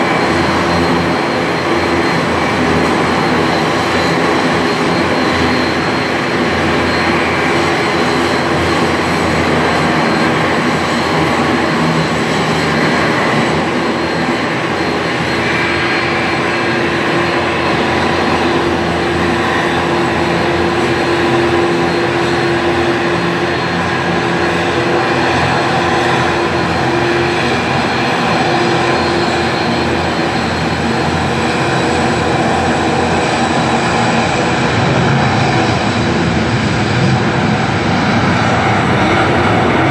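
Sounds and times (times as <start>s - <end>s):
turboprop engine whine and rumble: 0.0s - 39.9s.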